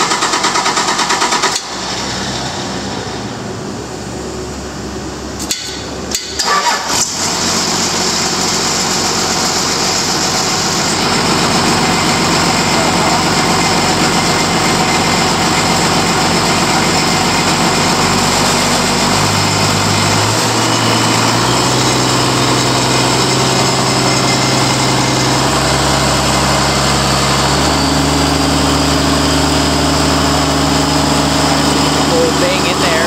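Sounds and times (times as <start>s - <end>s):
diesel engine revving in steps: 0.0s - 5.4s, 6.4s - 33.0s.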